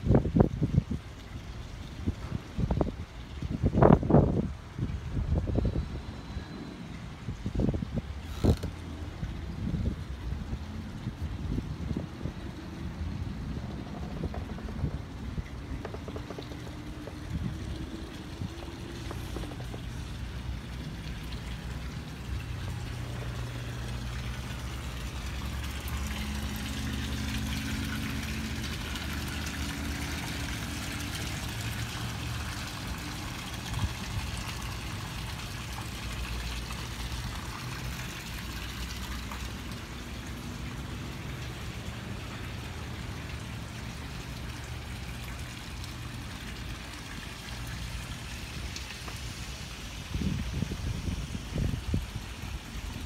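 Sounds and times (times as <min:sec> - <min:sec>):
water and wind hiss: 0:00.0 - 0:53.0
engine idling hum: 0:00.2 - 0:53.0.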